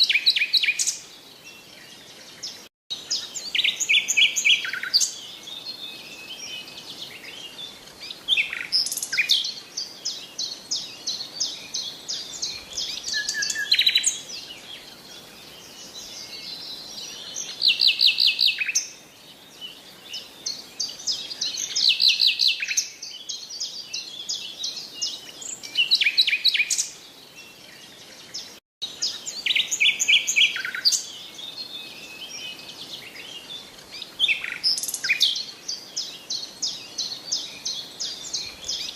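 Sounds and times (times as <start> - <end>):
background hiss: 0.0 - 38.9
songbirds singing: 0.0 - 38.9.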